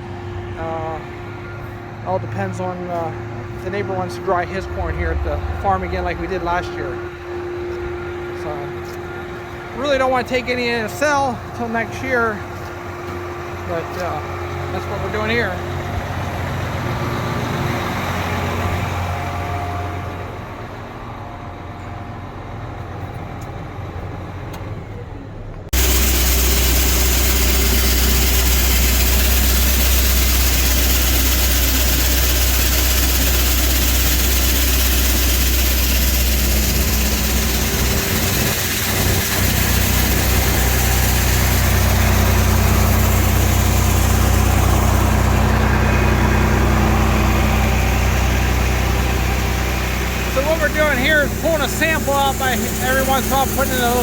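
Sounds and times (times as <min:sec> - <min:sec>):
tractor engine idling: 0:00.0 - 0:24.5, 0:25.1 - 0:54.0
farm machinery running: 0:00.0 - 0:24.6, 0:25.7 - 0:54.0.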